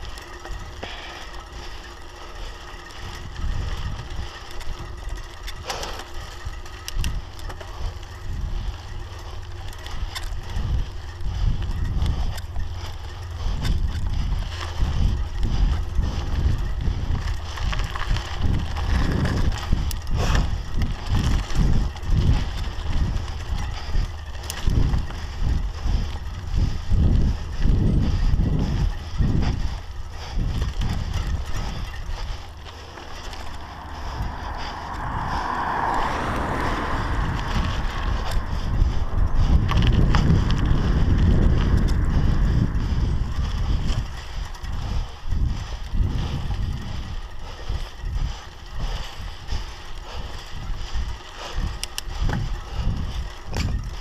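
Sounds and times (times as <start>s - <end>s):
bike tyres rumbling on dirt: 0.0s - 54.0s
wind buffeting microphone: 0.0s - 54.0s.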